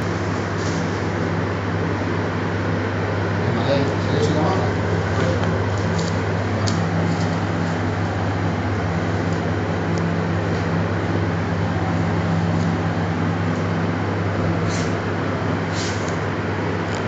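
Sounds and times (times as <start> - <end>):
machine hum with rushing hiss: 0.0 - 17.0.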